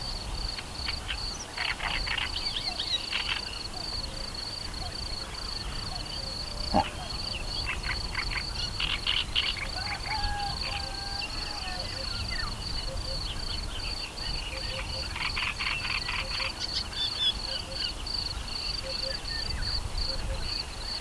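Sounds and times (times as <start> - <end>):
frogs croaking: 0.4 - 11.2, 14.1 - 21.0.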